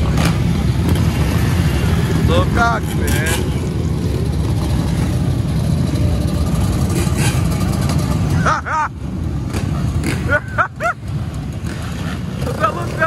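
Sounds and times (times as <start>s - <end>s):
many engines idling: 0.0s - 13.0s.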